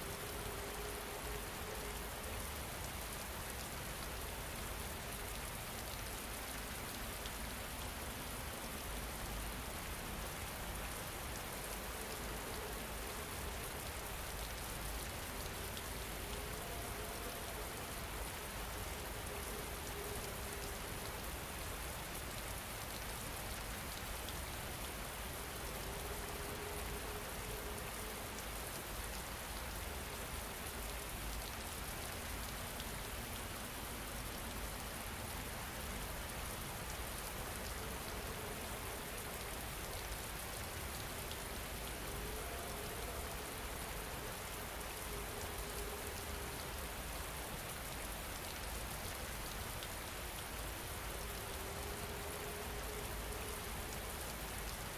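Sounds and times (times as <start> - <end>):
steady rain patter: 0.0 - 54.9.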